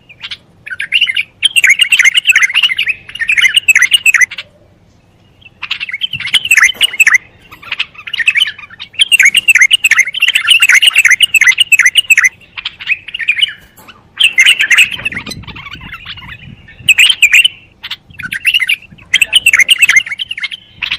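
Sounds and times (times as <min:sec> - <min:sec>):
bird singing chirping notes: 0:00.0 - 0:20.9.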